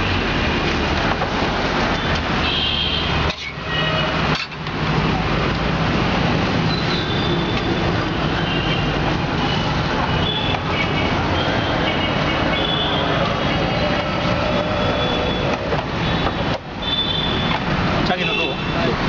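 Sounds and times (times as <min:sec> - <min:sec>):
road din: 0:00.0 - 0:19.0
vehicle engines humming: 0:00.0 - 0:19.0.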